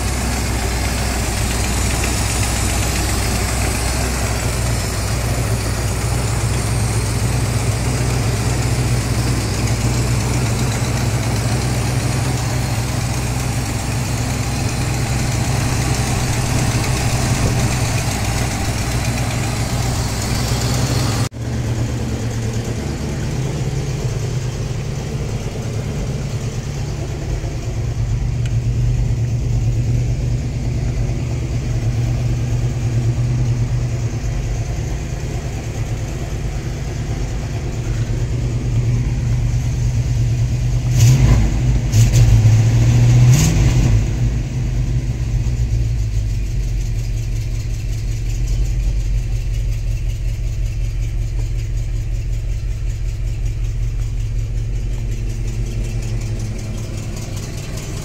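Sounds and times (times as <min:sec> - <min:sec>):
pickup engine idling: 0:00.0 - 0:43.3, 0:44.0 - 0:58.0.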